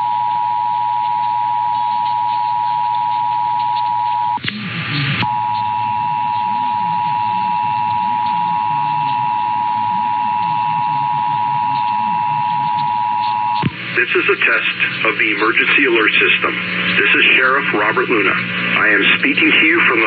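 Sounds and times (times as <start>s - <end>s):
radio hiss: 0.1s - 20.0s.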